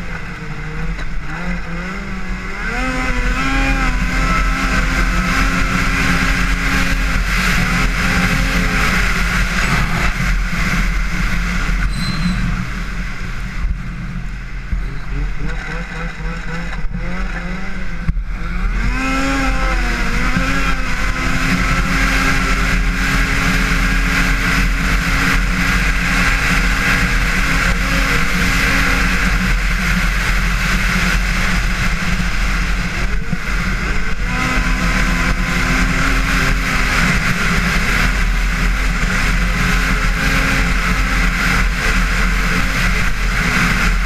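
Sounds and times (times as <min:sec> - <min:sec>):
snowmobile engine accelerating: 0:00.0 - 0:44.0.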